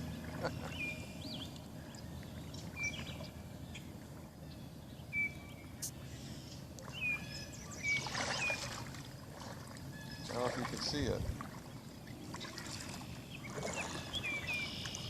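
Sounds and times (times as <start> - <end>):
low background hum: 0.0 - 15.0
songbird calling: 0.0 - 15.0.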